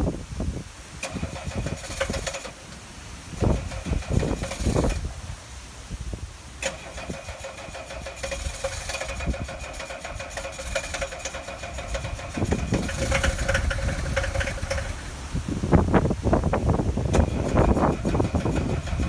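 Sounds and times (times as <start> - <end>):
diesel engine starter cranking: 1.0 - 5.6, 6.4 - 19.0
diesel car engine running: 1.0 - 19.0.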